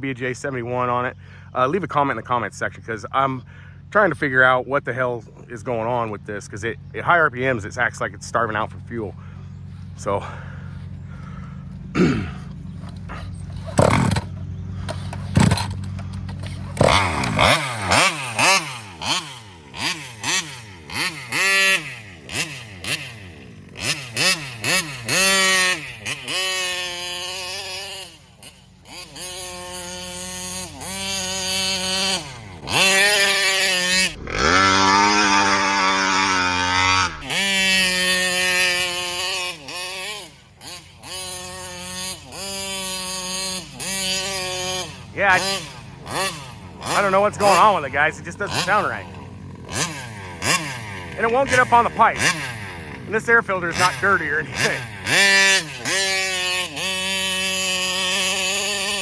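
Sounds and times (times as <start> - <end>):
small two-stroke engine revving: 0.0 - 59.0.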